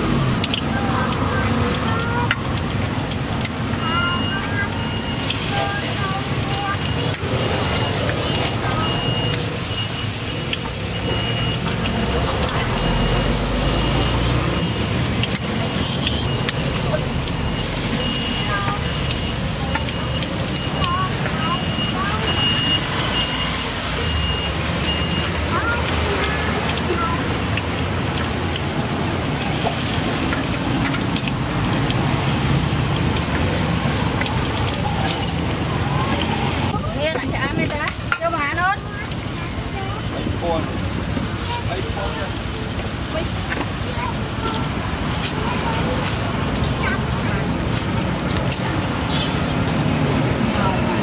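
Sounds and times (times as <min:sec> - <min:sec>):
food deep-frying in hot oil: 0:00.0 - 0:51.0.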